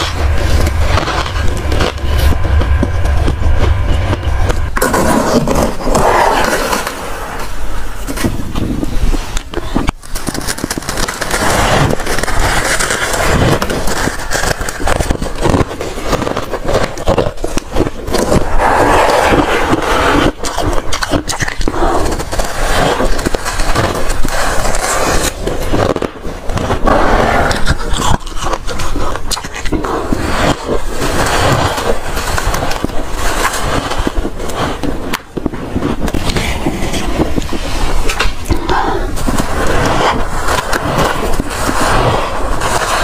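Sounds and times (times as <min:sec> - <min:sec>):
frost and ice scraped and crunched: 0:00.0 - 0:43.0.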